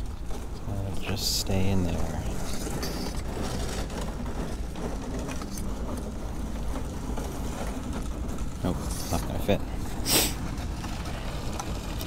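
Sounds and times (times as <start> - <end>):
cane knocking and scraping in handle: 0.0 - 12.0
low background rumble: 0.0 - 12.0.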